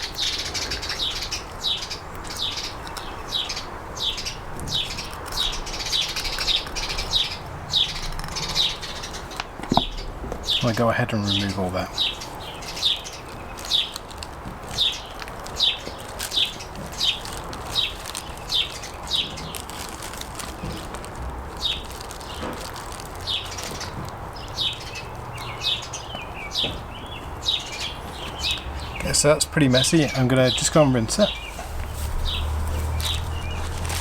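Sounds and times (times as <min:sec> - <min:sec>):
bird chirping: 0:00.0 - 0:14.0, 0:14.7 - 0:19.8, 0:21.5 - 0:34.0.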